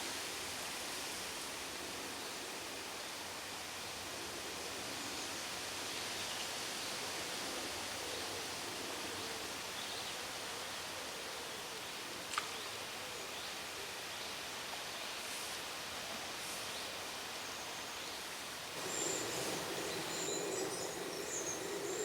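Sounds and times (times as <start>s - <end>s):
rushing outdoor background noise: 0.0s - 22.0s.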